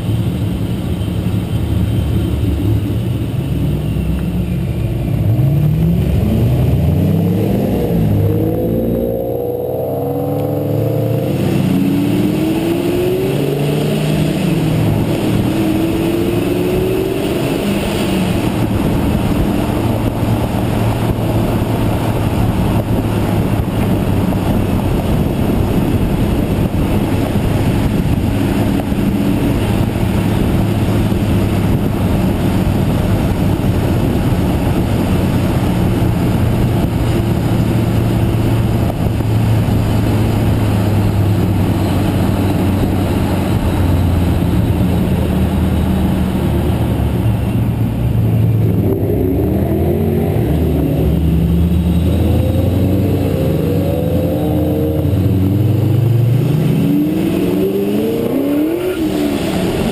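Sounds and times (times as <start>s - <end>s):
car engines accelerating: 0.0s - 59.9s
road and wind noise: 0.0s - 59.9s.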